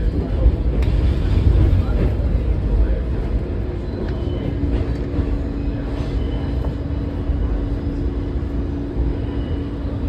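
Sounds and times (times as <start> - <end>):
subway train rumble: 0.0 - 10.0.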